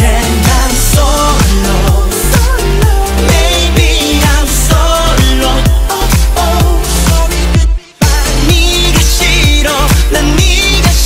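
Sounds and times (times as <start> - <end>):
electronic dance-pop music: 0.0 - 11.0.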